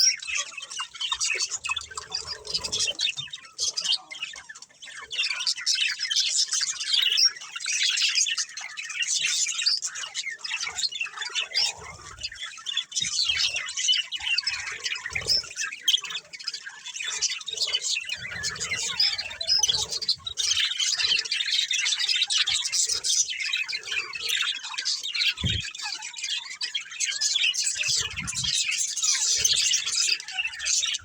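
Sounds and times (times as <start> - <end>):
bird squawks: 0.0 - 31.0
budgerigars chattering: 0.0 - 31.0.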